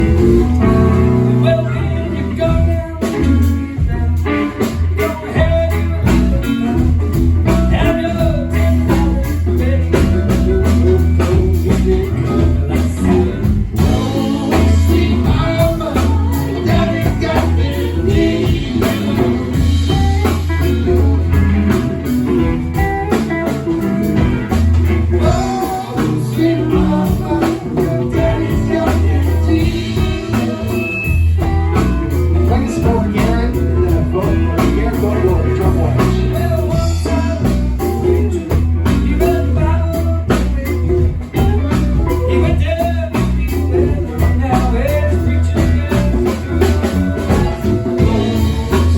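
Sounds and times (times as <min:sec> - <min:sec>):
bass guitar: 0:00.0 - 0:48.9
drums: 0:00.0 - 0:48.9
electric guitar: 0:00.0 - 0:48.9
person singing: 0:00.0 - 0:48.9.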